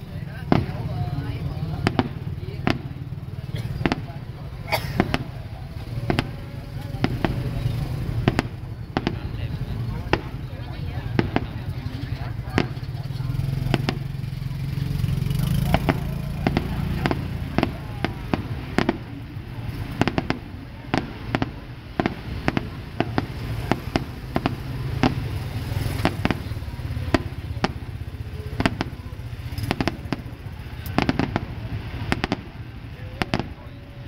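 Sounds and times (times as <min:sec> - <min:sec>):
fireworks bangs and pops: 0:00.0 - 0:34.0.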